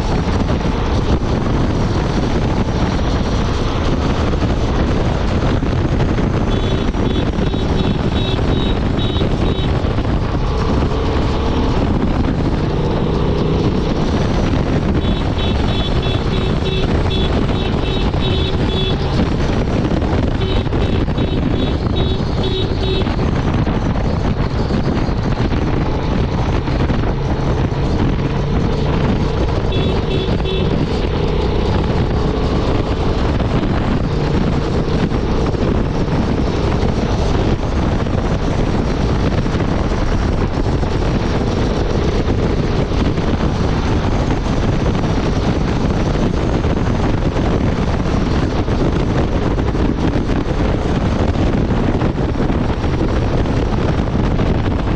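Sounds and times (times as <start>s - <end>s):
motorcycle engine running: 0.0s - 54.9s
wind noise on microphone: 0.0s - 54.9s.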